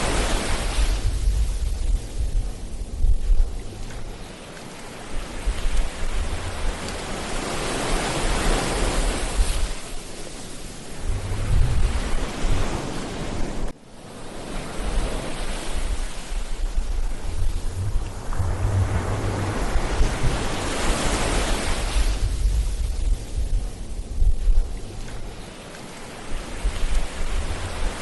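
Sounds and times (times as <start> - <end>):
ocean surf breaking on a beach: 0.0 - 28.0
wind rumble on microphone: 0.0 - 28.0.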